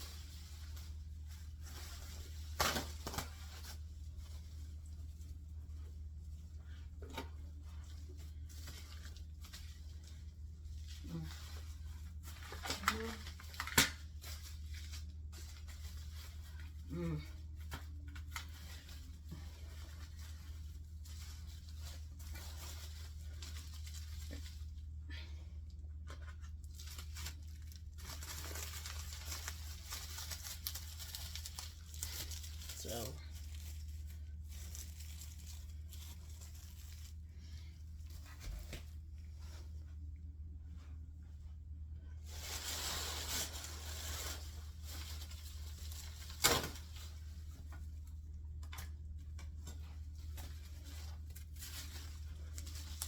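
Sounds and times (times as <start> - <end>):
packing material crinkling and tearing: 0.0 - 6.3, 7.1 - 25.0, 26.0 - 39.0, 42.1 - 53.0.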